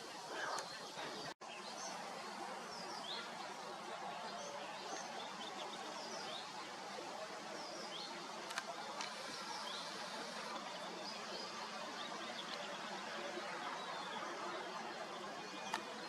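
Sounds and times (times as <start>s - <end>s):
small birds chirping: 0.0s - 6.7s, 7.4s - 16.0s
outdoor hiss: 0.0s - 16.0s.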